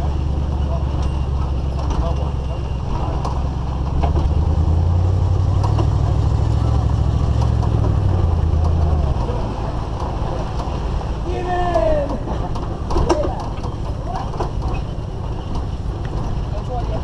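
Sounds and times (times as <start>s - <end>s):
knocks and rattles: 0.0s - 10.9s, 11.7s - 17.0s
engine rumble: 0.0s - 17.0s
road noise: 0.0s - 17.0s.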